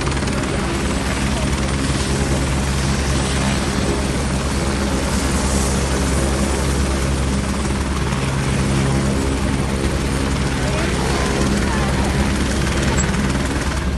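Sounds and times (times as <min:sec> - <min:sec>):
helicopter rotor and engine: 0:00.0 - 0:13.9.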